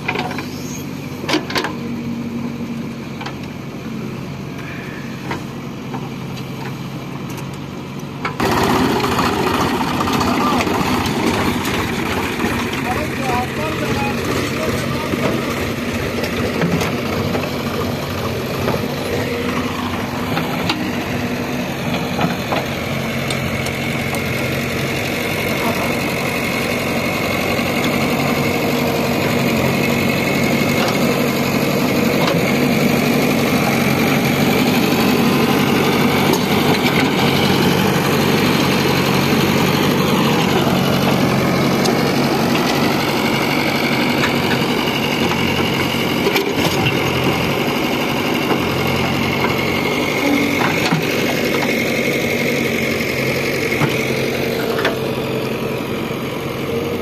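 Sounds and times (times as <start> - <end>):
backhoe digging soil: 0.0 - 57.0
diesel engine running: 0.0 - 57.0.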